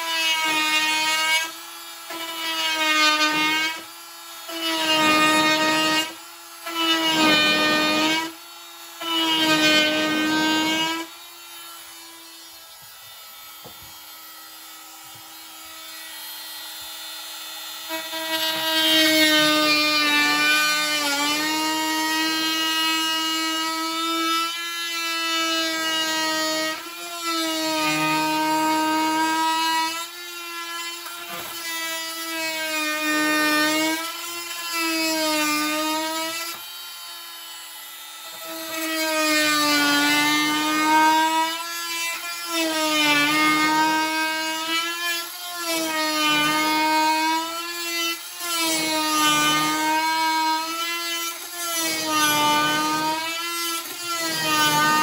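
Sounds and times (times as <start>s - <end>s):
multi-tool cutting wood: 0.0s - 55.0s.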